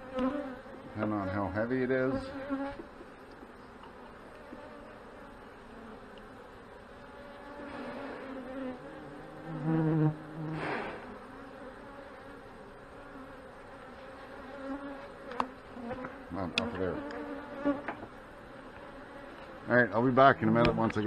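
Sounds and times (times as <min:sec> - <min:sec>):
bees flying past buzzing: 0:00.0 - 0:21.0
honey bees buzzing: 0:00.0 - 0:21.0.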